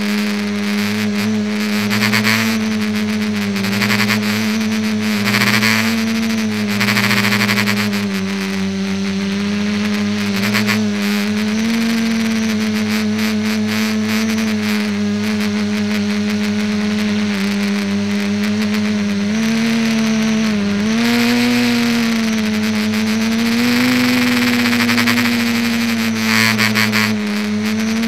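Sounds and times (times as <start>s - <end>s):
propellers buzzing hum: 0.0s - 28.0s.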